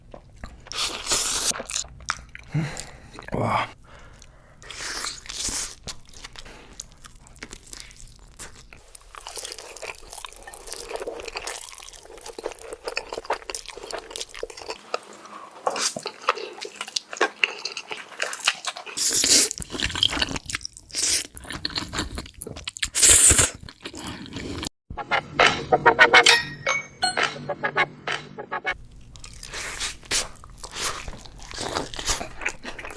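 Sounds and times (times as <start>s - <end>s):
person chewing crunchy food: 0.0s - 3.3s, 4.0s - 24.7s, 28.1s - 32.9s.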